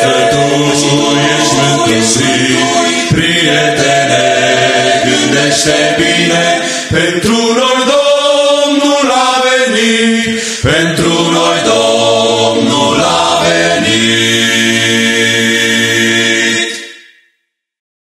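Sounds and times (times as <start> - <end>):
vocal group singing a cappella: 0.0 - 17.1.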